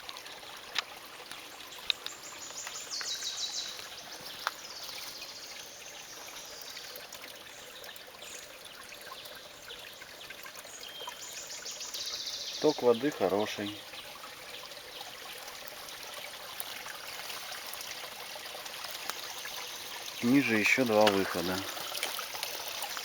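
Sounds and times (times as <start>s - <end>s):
spring water splashing: 0.0s - 23.0s.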